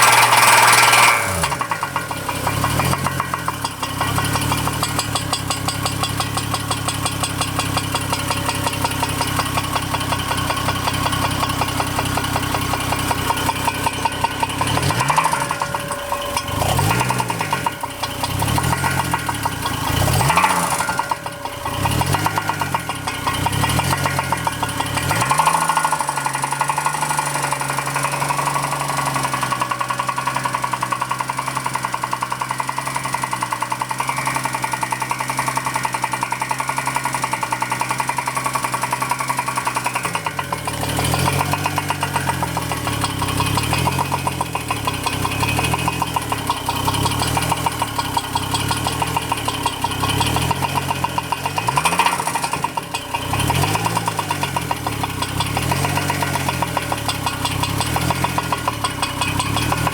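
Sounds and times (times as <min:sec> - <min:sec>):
car engine revving: 0:00.0 - 0:59.9
engine knocking: 0:00.0 - 0:59.9.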